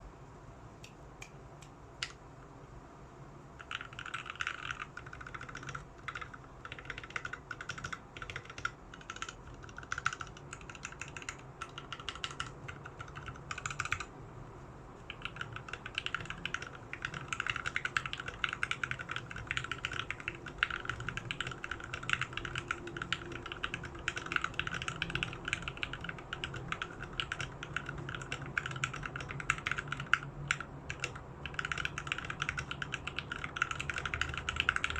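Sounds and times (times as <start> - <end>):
mechanical keyboard typing: 3.6 - 14.1, 15.1 - 34.9.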